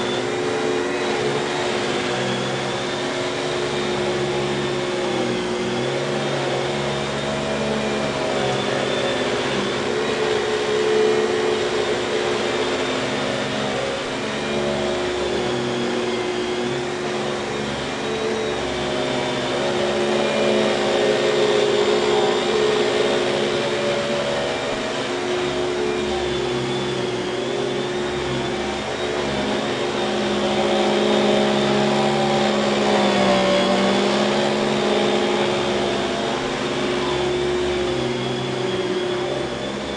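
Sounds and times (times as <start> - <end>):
vacuum cleaner whirring: 0.0 - 39.9.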